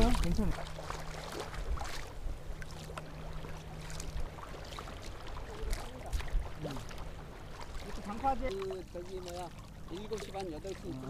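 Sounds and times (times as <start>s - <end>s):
kayak paddle splashing water: 0.0s - 11.0s.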